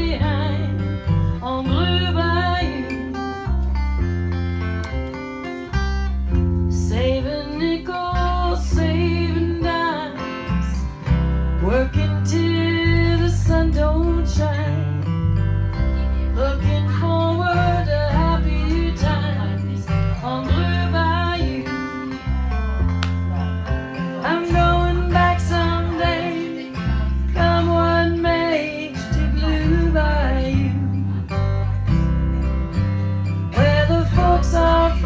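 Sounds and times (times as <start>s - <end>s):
steady bass line: 0.0s - 5.1s, 10.6s - 35.0s
acoustic guitar strumming: 0.0s - 35.0s.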